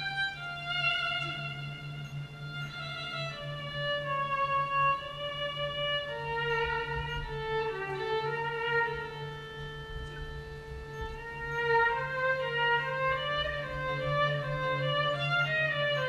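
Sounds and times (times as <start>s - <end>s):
steady low hum: 0.0s - 16.0s
violin slow melody: 0.0s - 16.0s.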